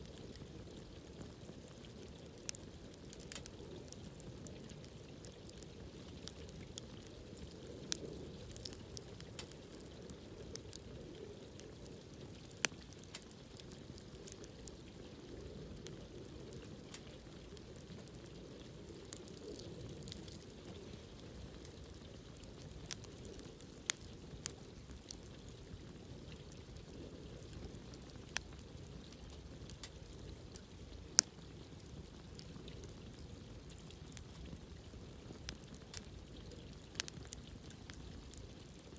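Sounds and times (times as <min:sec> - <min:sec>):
campfire crackles and pops: 0:00.0 - 0:38.9
low flame rumble: 0:00.0 - 0:38.9.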